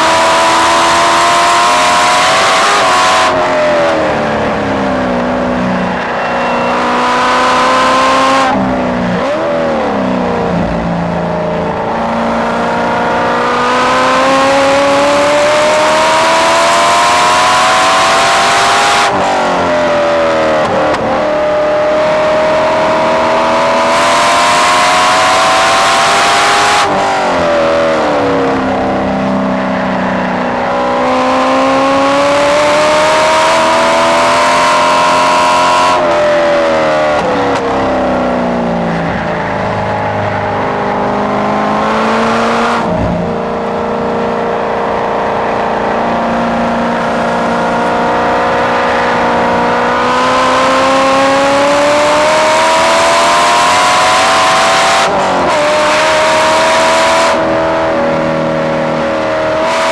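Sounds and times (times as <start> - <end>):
car engine at full throttle: 0.0 - 59.9.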